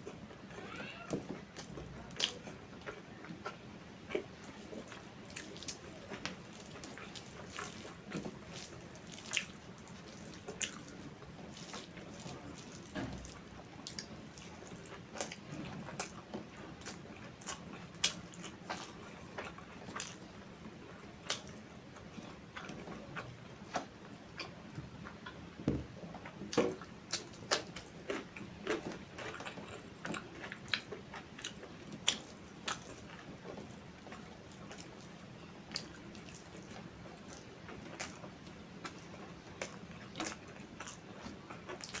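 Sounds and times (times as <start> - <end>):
person chewing food: 1.6 - 42.0.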